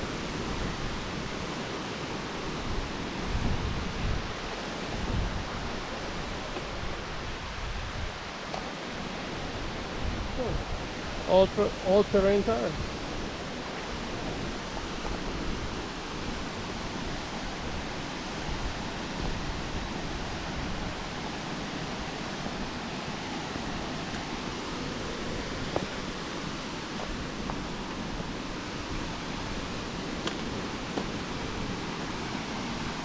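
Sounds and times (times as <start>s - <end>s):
waterfall rushing: 0.0s - 33.0s
wind rumble on microphone: 0.0s - 33.0s.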